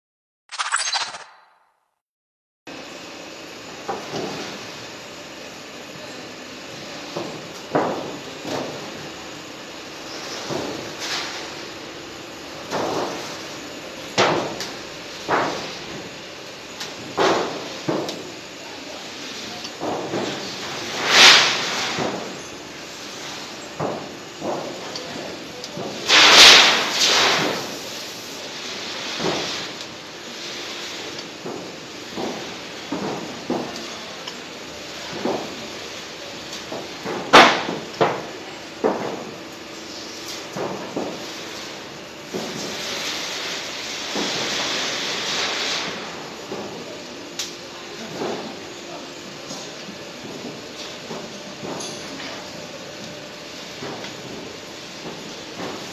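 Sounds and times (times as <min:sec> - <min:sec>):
roll forming machine hum: 0:02.7 - 0:55.9.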